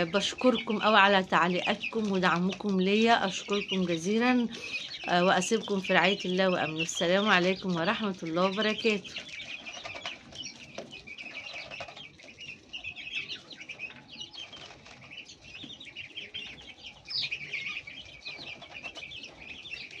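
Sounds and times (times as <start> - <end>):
chicks and ducklings peeping: 0.0 - 20.0.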